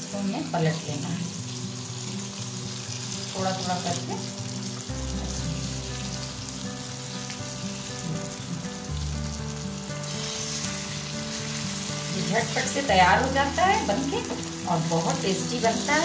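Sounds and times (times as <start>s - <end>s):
food sizzling in a frying pan: 0.0s - 16.0s
soft background music: 0.0s - 16.0s.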